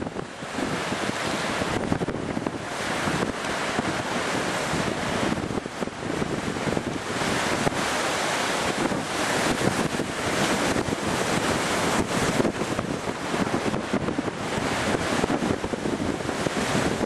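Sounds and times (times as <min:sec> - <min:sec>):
strong wind buffeting microphone: 0:00.0 - 0:17.0
waves washing and breaking: 0:00.0 - 0:17.0.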